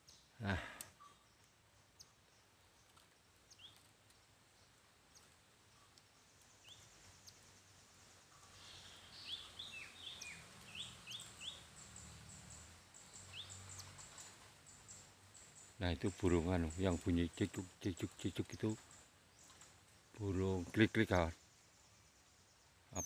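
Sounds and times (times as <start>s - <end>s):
rapid high ticking bird notes: 0.0s - 23.0s
small bird chirping: 0.0s - 23.0s.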